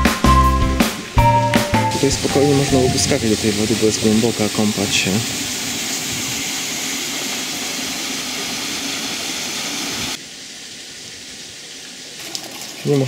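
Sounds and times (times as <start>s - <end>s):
water rushing in rocky stream: 1.9s - 13.0s.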